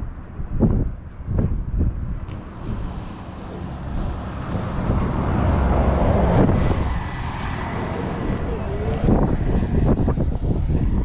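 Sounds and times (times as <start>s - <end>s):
passing vehicle rumble: 0.0s - 11.0s
wind buffeting microphone: 0.0s - 11.0s.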